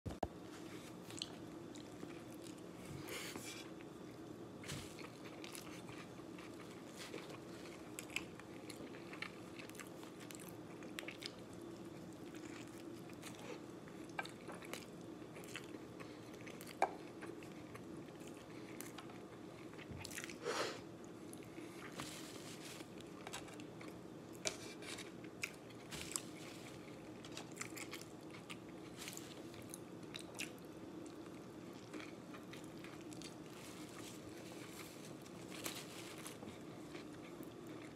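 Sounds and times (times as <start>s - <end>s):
steady low hum: 0.1s - 37.9s
person chewing food: 0.6s - 20.4s, 21.0s - 37.9s.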